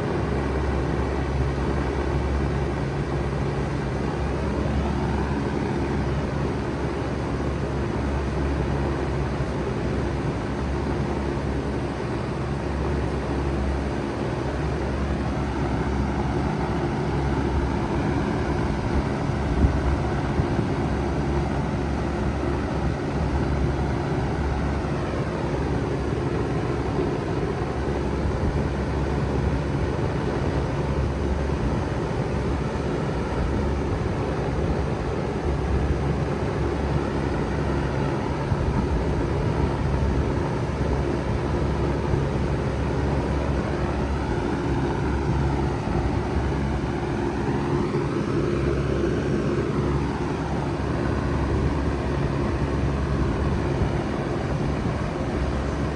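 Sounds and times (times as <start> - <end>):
heat pump humming: 0.0 - 55.9.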